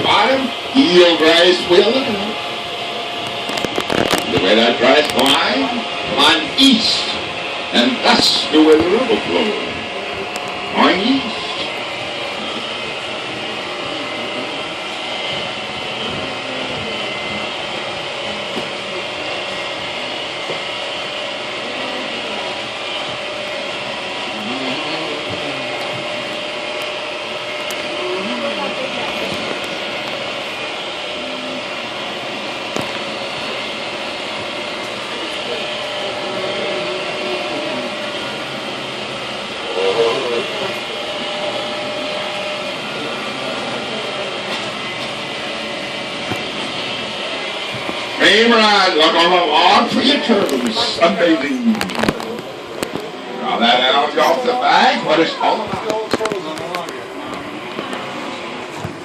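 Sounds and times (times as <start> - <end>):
boat motor humming and whining: 0.0 - 59.0
faint passenger voices: 0.0 - 59.0.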